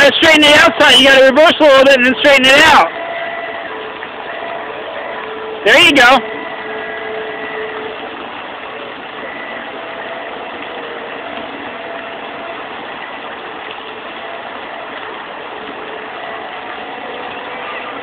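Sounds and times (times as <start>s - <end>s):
bumper boat engines droning: 0.0s - 18.0s
faint steady tones: 0.0s - 18.0s.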